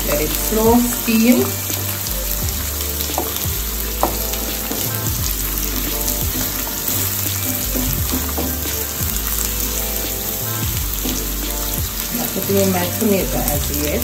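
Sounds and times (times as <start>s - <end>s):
oil sizzling in frying pan: 0.0s - 14.0s.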